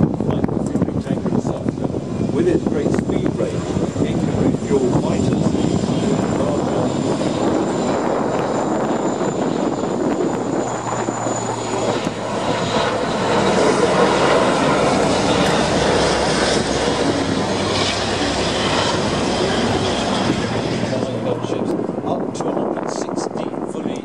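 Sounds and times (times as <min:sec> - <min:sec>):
turboprop engines droning: 0:00.0 - 0:24.0.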